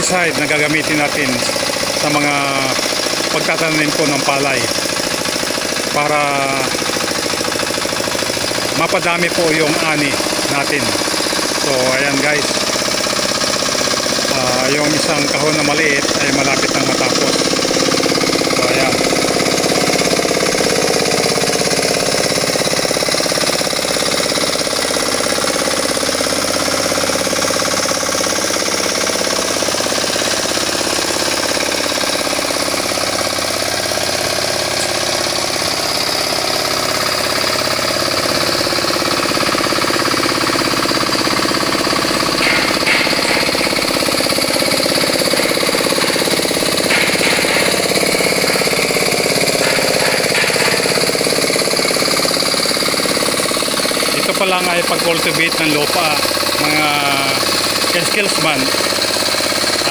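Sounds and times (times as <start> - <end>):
small engine running under load: 0.0 - 59.9
wheels churning through mud: 0.0 - 59.9.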